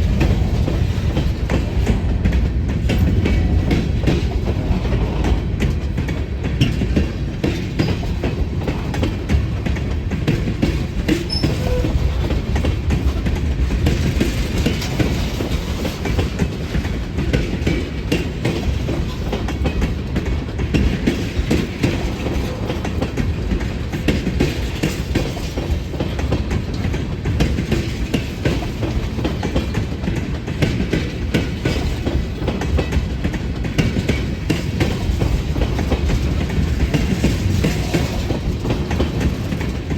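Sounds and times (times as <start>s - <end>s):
train rumbling past: 0.0s - 39.9s
wheels clicking over rail joints: 0.0s - 39.9s.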